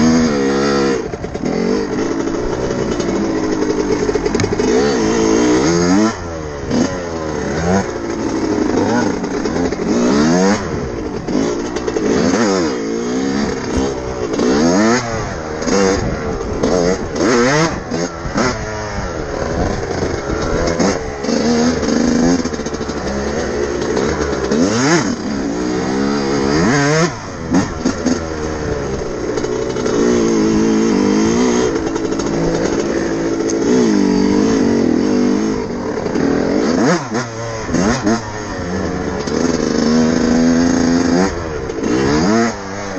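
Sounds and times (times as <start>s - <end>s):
two-stroke motorcycle engine revving: 0.0s - 42.9s.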